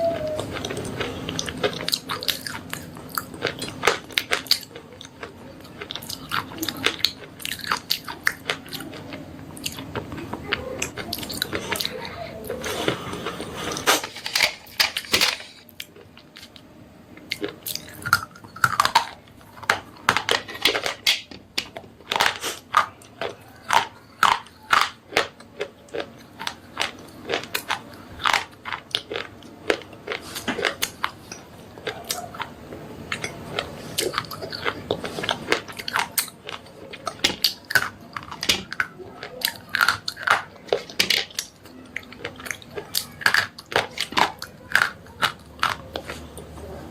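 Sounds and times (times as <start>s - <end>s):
pencils being chewed crunching: 0.0s - 46.9s.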